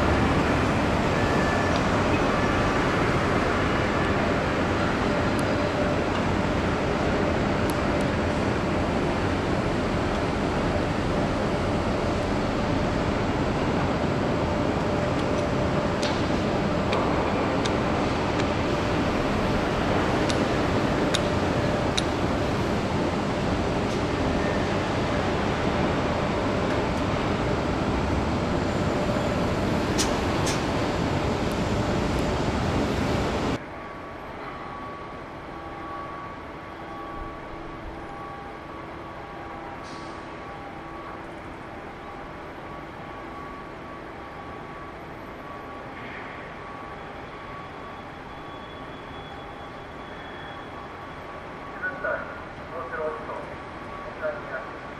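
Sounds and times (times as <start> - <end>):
traffic: 0.0 - 54.9.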